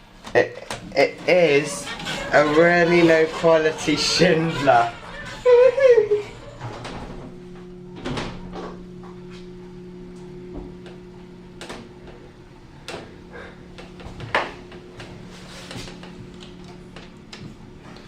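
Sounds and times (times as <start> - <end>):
hydraulic pump motor humming: 0.0 - 18.0.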